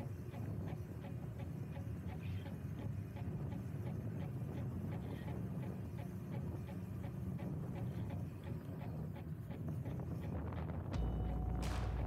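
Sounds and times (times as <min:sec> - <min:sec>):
wind and tyre noise: 0:00.0 - 0:12.0.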